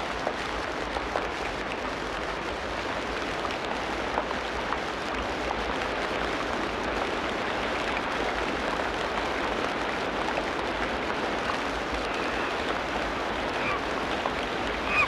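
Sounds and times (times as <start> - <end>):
rain hissing: 0.0 - 15.0
raindrops ticking: 0.1 - 15.0.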